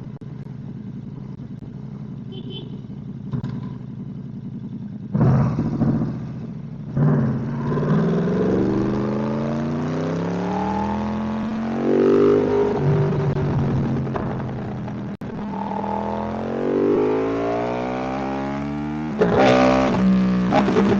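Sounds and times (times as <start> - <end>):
motorcycle engine revving: 0.2 - 20.9.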